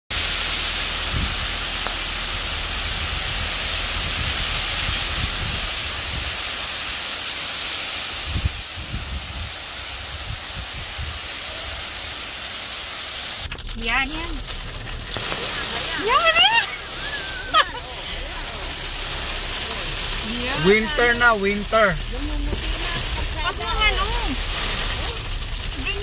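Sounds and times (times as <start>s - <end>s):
low rumbles: 0.1s - 6.9s, 8.2s - 26.0s
heavy rain on concrete: 0.1s - 26.0s.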